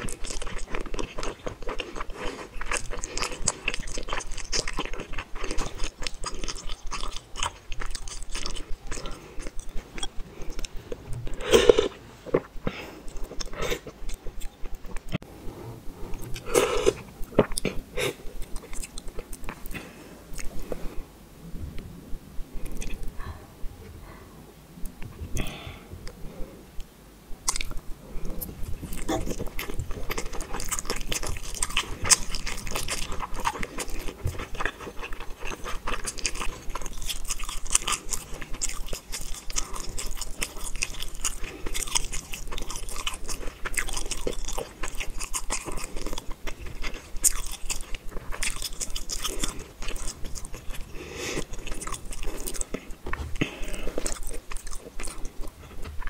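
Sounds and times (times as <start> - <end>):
chewing with mouth clicks: 0.0 - 15.2, 16.1 - 20.9, 26.8 - 56.0.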